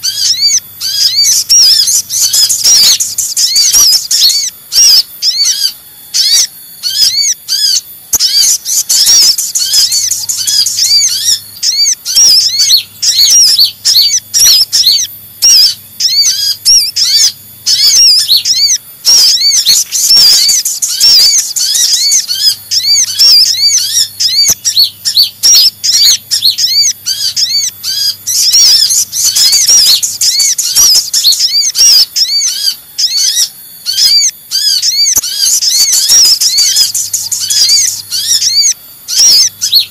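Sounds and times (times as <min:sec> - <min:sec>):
birds chirping and ticking: 0:00.0 - 0:39.9.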